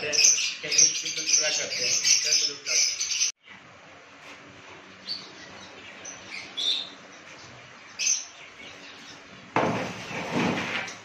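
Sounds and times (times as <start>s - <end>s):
birds chirping: 0.0s - 4.0s, 4.6s - 11.0s.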